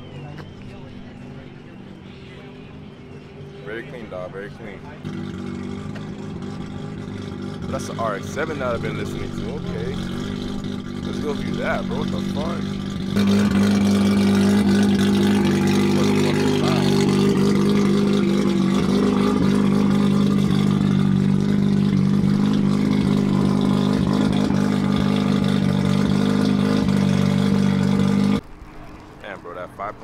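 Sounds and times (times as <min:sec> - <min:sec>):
rotary engine idling: 0:00.0 - 0:30.0.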